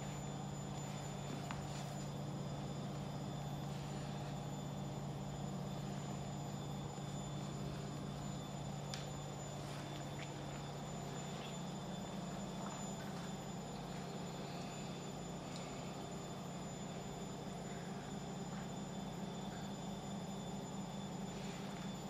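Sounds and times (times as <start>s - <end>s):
high-pitched whine: 0.0s - 22.0s
low hum: 0.0s - 22.0s.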